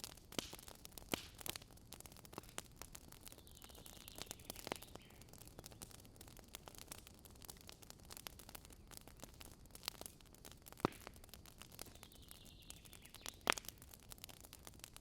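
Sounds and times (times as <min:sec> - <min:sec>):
campfire crackling: 0:00.0 - 0:15.0
loud fire pops: 0:00.0 - 0:15.0.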